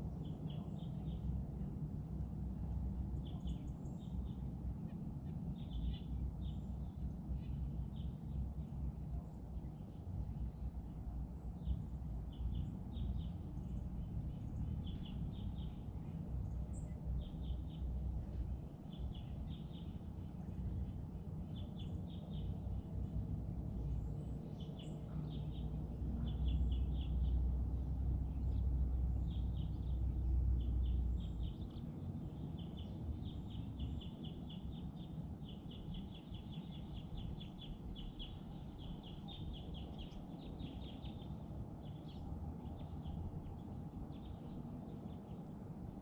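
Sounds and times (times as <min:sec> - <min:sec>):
small birds chirping: 0:02.5 - 0:23.2, 0:23.8 - 0:46.0.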